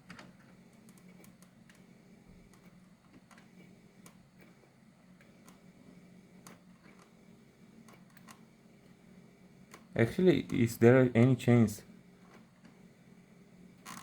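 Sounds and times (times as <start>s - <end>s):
fluorescent lamp electrical buzz: 0.0s - 14.0s.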